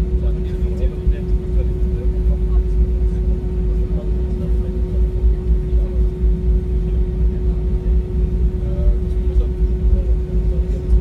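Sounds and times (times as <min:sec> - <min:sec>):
jet engines inside cabin: 0:00.0 - 0:11.0.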